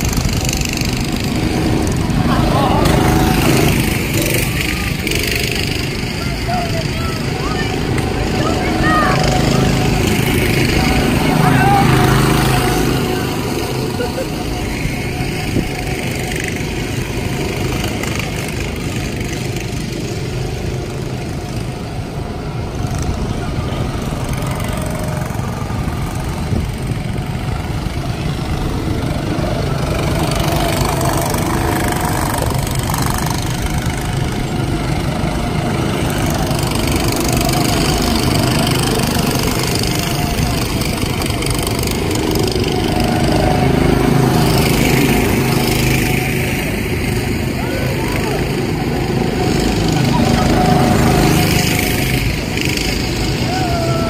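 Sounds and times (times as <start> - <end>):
go-kart engines running: 0.0 - 54.0.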